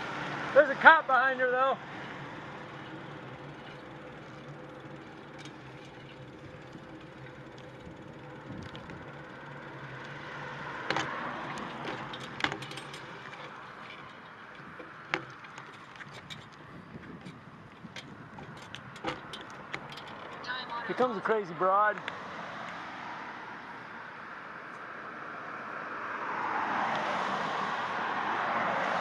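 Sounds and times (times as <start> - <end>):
vehicle passing: 0.0 - 15.6, 20.3 - 24.3, 25.0 - 29.0
street traffic noise: 0.0 - 29.0.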